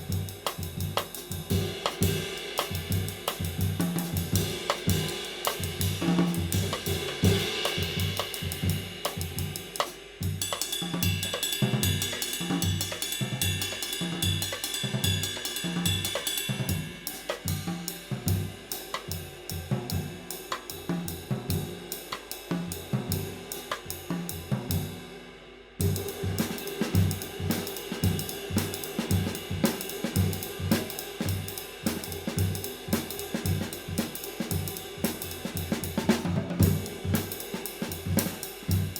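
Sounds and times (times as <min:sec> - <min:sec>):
drum kit groove: 0:00.0 - 0:25.2, 0:25.8 - 0:38.9.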